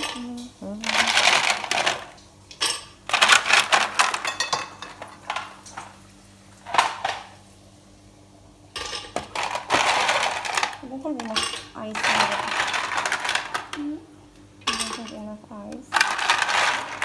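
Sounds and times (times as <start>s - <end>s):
dishes and utensils clattering: 0.0s - 6.0s, 6.6s - 7.4s, 8.8s - 14.0s, 14.6s - 17.0s.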